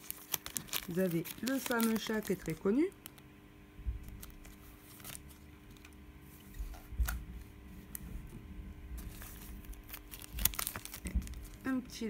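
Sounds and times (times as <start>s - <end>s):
paper and plastic rustling: 0.0s - 3.2s, 4.0s - 8.3s, 9.0s - 12.0s.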